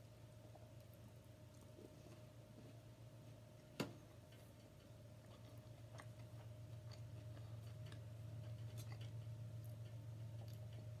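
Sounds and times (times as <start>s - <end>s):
low steady hum: 0.0s - 11.0s
quiet chewing: 0.0s - 11.0s.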